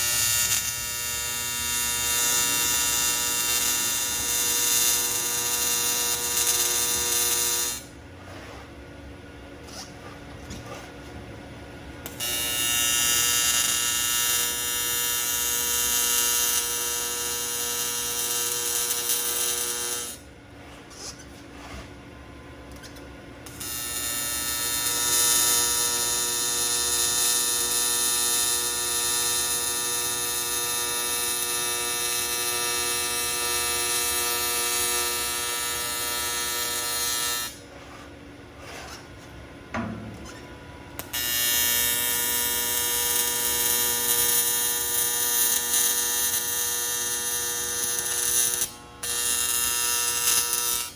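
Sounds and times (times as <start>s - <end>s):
welding arc buzzing: 0.0s - 8.7s, 12.0s - 21.9s, 22.7s - 50.9s.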